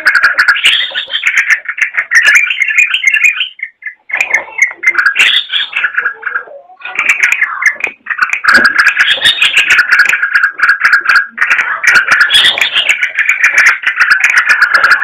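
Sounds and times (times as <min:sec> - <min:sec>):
bird singing chattering runs: 0:00.0 - 0:15.0.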